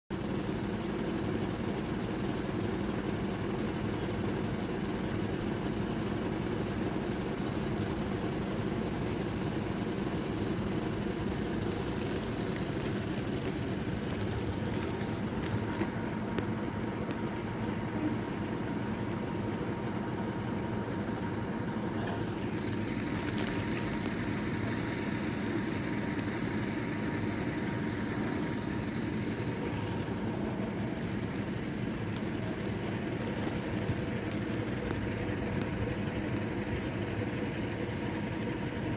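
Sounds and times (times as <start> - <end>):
vehicle engines idling: 0.1 - 38.9.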